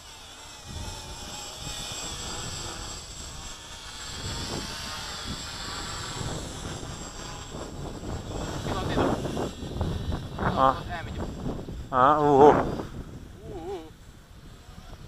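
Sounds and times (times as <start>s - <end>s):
model aircraft electric motor whine: 0.0s - 15.0s.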